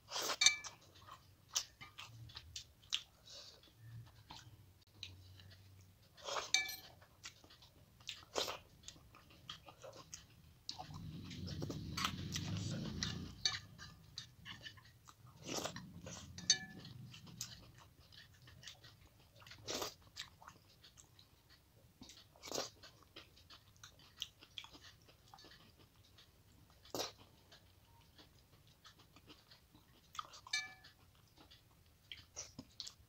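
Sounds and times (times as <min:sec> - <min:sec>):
chewing with wet mouth noises: 0:00.0 - 0:33.0.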